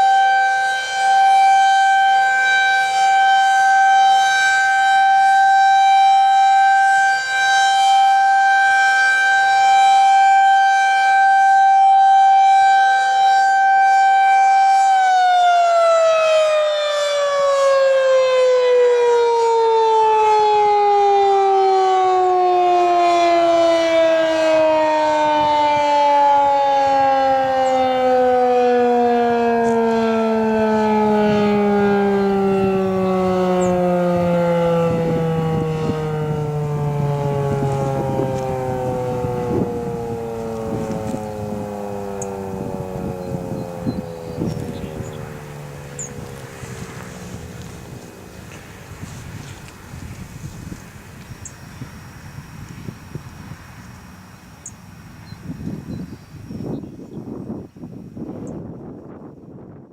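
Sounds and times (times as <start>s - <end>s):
warning siren steady tone: 0.0s - 59.9s.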